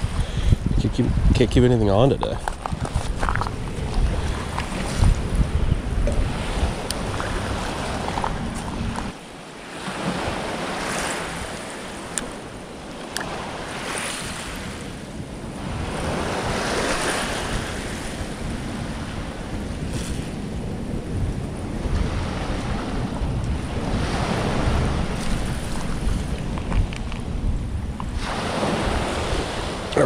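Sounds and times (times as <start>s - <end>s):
small waves washing onto shore: 0.0s - 30.0s
wind rumbling on microphone: 0.0s - 30.0s.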